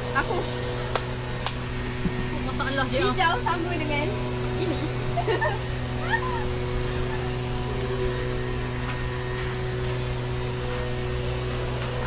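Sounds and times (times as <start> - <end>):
low hum with constant tones: 0.0 - 12.0.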